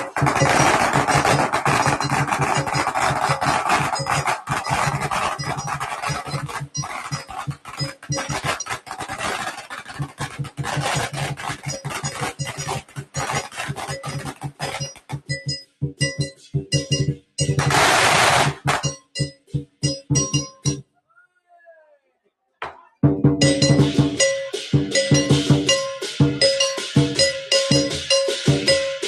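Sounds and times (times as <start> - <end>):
firecrackers crackling: 0.0 - 20.8, 23.4 - 29.0.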